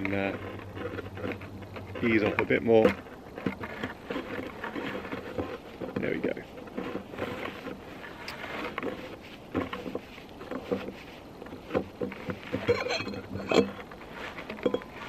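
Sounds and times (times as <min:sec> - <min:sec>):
gloves rubbing: 0:00.0 - 0:15.0.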